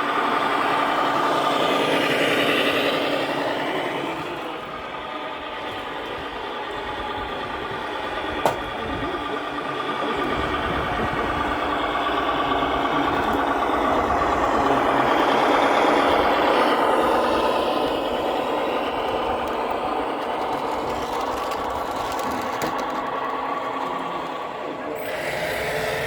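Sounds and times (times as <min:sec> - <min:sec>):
simulated diesel engine through speaker: 0:00.0 - 0:26.0.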